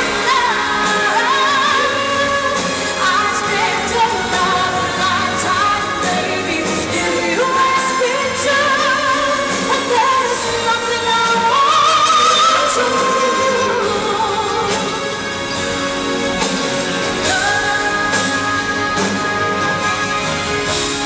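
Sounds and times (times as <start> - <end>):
woman singing into microphone: 0.0 - 15.3, 17.2 - 20.8
band accompaniment: 0.0 - 21.0.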